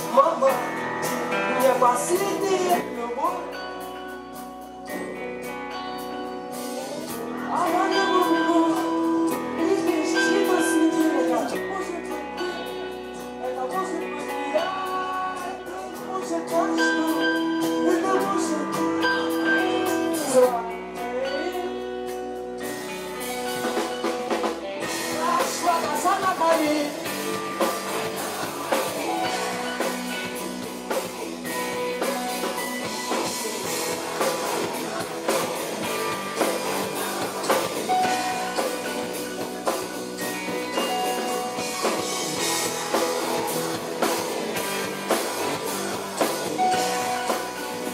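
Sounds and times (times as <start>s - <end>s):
pop-rock song with guitar and drums: 0.0s - 47.9s.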